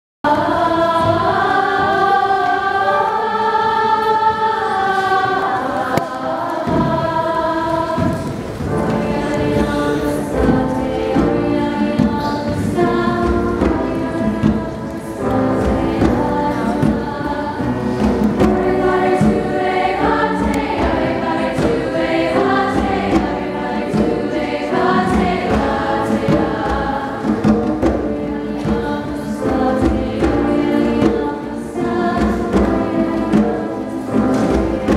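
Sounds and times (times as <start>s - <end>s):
choir singing in harmony: 0.3s - 34.9s
low rhythmic accompaniment: 0.3s - 34.9s.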